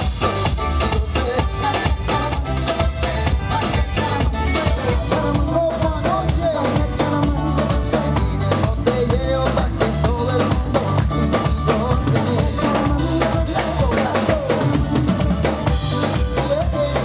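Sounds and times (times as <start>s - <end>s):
drums keeping steady beat: 0.0s - 17.0s
live band playing upbeat music: 0.0s - 17.0s.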